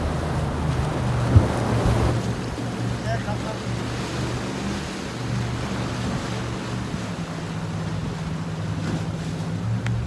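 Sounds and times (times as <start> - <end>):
boat engine drone: 0.0 - 10.0
surf washing against rocks: 0.0 - 10.0.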